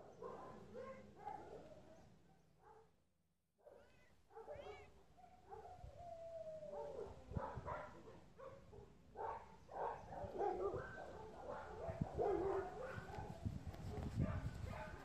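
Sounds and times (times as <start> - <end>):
dog barking calls: 0.0 - 2.9, 3.7 - 5.9, 6.7 - 15.0.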